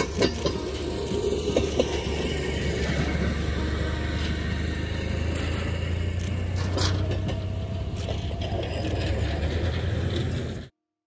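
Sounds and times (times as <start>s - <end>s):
truck engine and wheel hum on rails: 0.0s - 10.8s.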